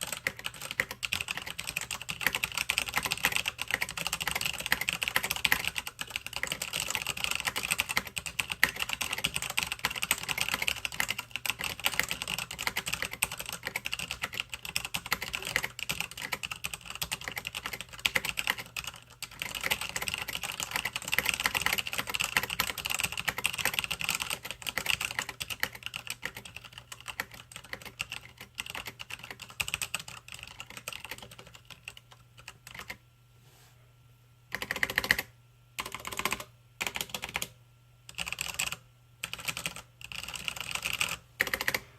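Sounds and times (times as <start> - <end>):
mechanical keyboard typing: 0.0 - 33.0, 34.5 - 41.8.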